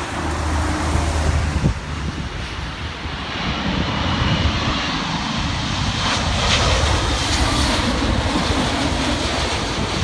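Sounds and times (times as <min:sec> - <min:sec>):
jet engines passing overhead: 0:00.0 - 0:10.0
wind buffeting microphone: 0:00.0 - 0:10.0.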